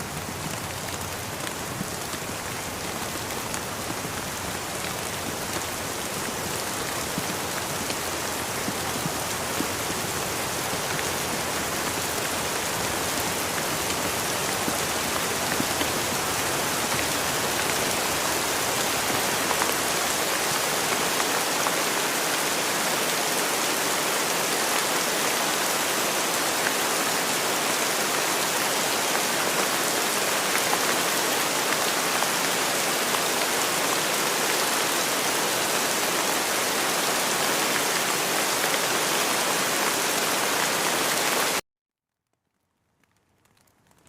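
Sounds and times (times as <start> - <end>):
heavy rain falling: 0.0 - 41.6.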